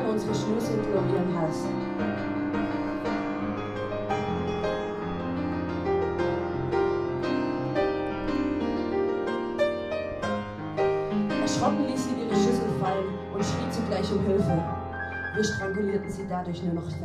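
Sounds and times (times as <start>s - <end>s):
upright piano slow chords: 0.0s - 17.0s.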